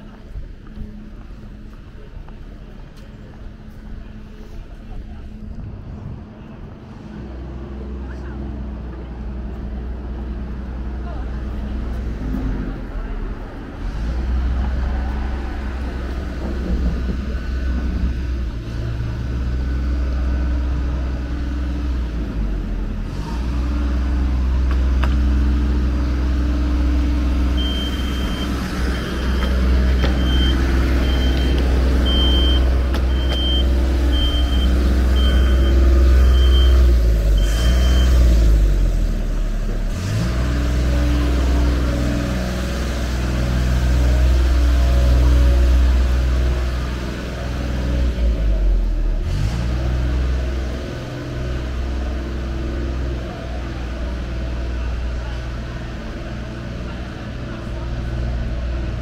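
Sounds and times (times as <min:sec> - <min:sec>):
vehicle engines droning: 0:00.0 - 0:59.0.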